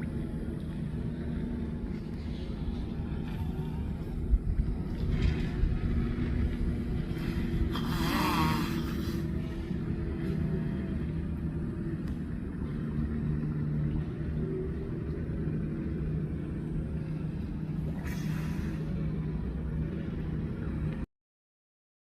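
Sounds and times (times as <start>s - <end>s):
low rumble: 0.0s - 21.0s
hum: 0.0s - 21.1s.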